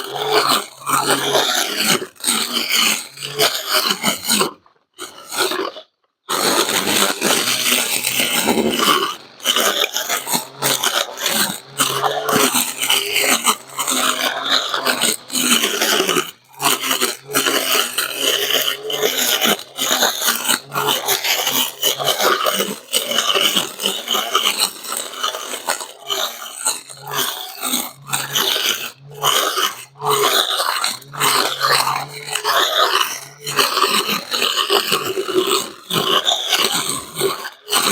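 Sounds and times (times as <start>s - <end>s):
brush cutter cutting grass: 0.0s - 37.9s.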